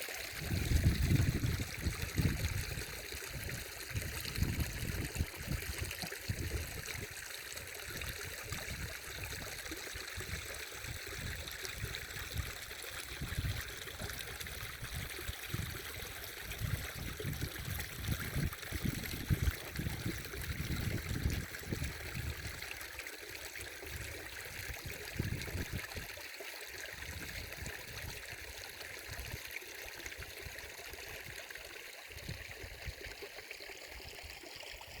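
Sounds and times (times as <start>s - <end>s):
stream water trickling: 0.0s - 35.0s.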